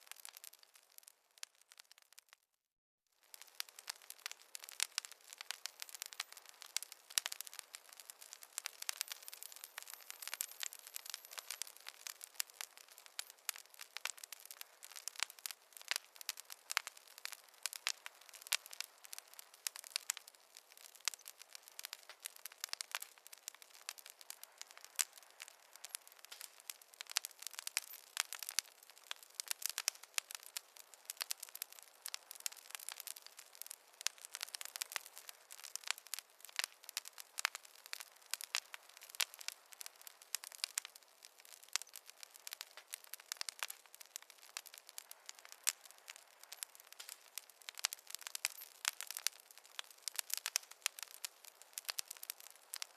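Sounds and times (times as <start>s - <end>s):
wood fire crackling and popping: 0.0s - 2.5s, 3.2s - 52.9s
faint hiss: 3.2s - 52.9s.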